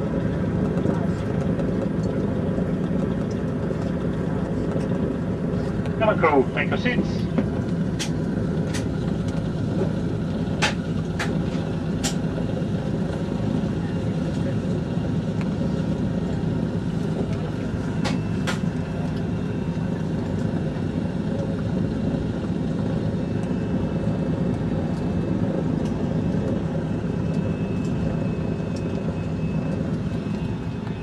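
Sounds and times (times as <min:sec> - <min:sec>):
piston engines running: 0:00.0 - 0:31.0.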